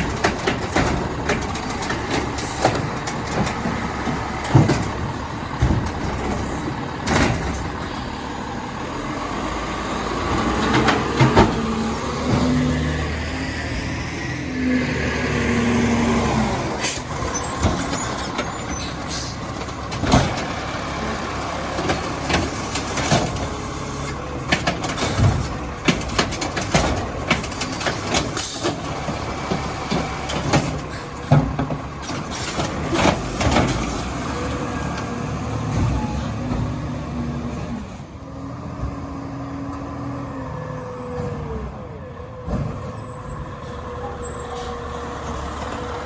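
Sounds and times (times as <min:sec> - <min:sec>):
garbage truck running: 0:00.0 - 0:46.0.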